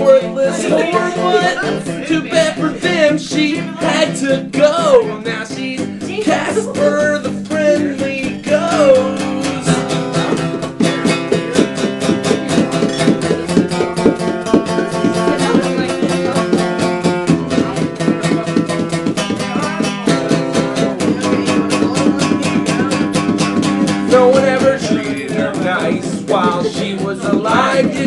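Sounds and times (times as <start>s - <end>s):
punk guitar strumming: 0.0s - 28.0s.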